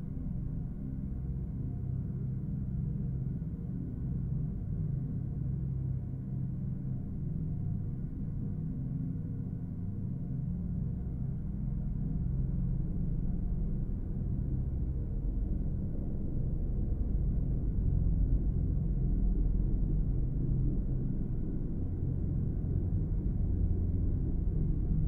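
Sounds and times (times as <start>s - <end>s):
deep ambient drone: 0.0s - 25.0s.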